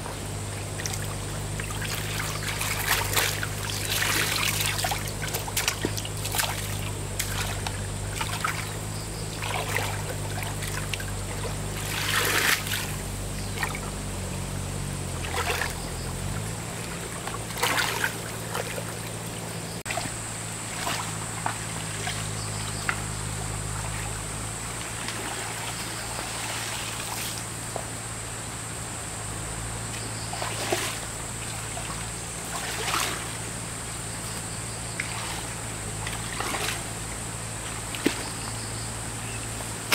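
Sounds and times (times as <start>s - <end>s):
water splashes: 0.0s - 28.0s, 29.9s - 39.9s
water pump humming: 0.0s - 39.9s.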